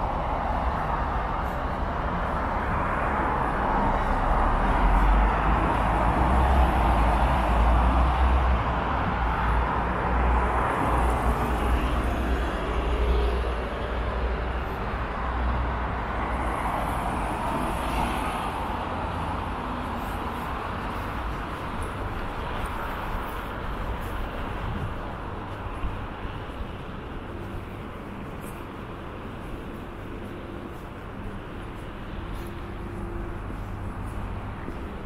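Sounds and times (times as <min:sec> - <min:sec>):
bus passing: 0:00.0 - 0:35.0
street traffic rumble: 0:00.0 - 0:35.0.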